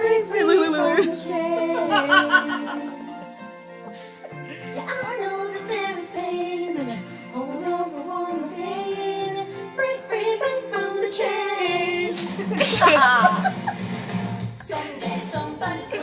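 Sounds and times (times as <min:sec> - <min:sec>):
women singing: 0:00.0 - 0:03.6, 0:04.6 - 0:13.5, 0:14.4 - 0:16.0
music: 0:00.0 - 0:16.0.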